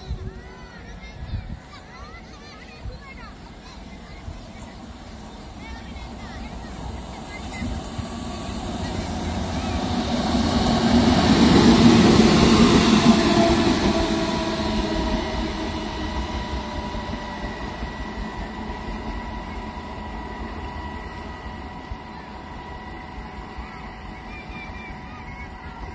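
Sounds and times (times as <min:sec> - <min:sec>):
electric locomotive whine: 0:00.0 - 0:25.9
wheels rumbling on rail: 0:00.0 - 0:25.9.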